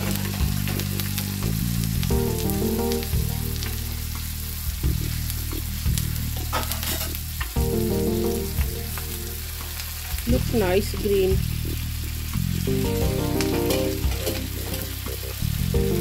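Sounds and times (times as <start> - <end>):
chicken sizzling in butter: 0.0 - 16.0.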